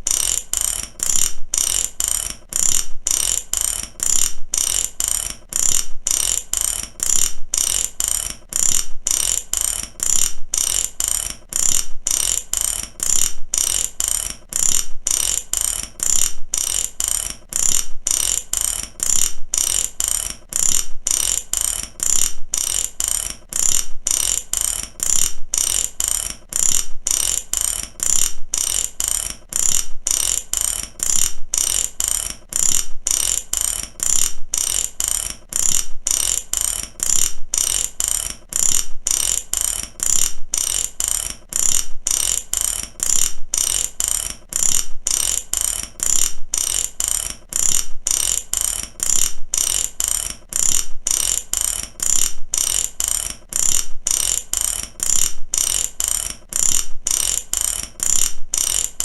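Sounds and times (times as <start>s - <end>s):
ratchet wrench clicking: 0.0s - 59.0s.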